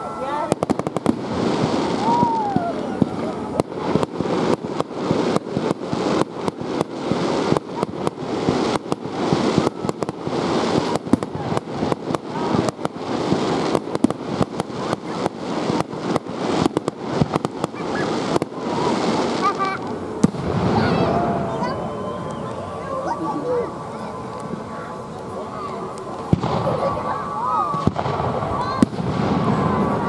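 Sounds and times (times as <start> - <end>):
fireworks bangs and pops: 0.0 - 30.0.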